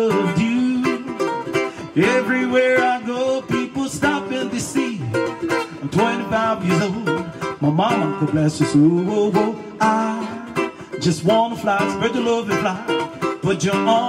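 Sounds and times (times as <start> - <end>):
man singing: 0.0 - 14.0
ukulele strumming: 0.0 - 14.0.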